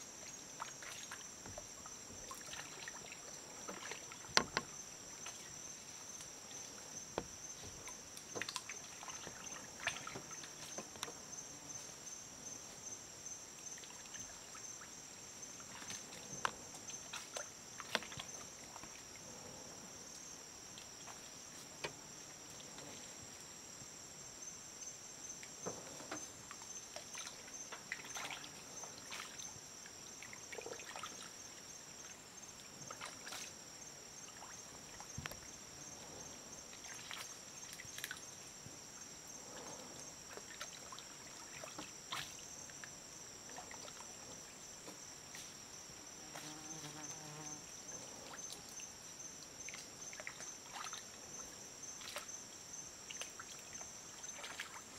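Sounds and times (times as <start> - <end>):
water splashes and drips: 0.0 - 11.3, 13.6 - 19.3, 25.4 - 38.8, 39.4 - 46.4, 47.9 - 54.9
high-pitched insect chorus: 0.0 - 54.9.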